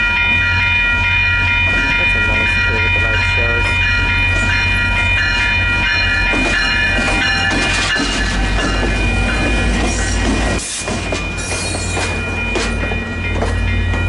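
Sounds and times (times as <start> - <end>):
high ringing tones: 0.0 - 14.0
train rumbling past: 0.0 - 14.0.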